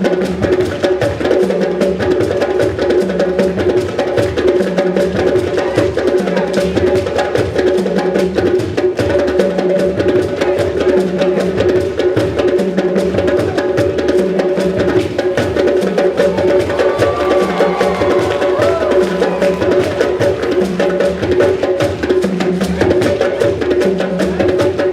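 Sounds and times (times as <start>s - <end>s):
drum ensemble playing fast rhythm: 0.0s - 24.9s
low drum pattern: 0.0s - 24.9s.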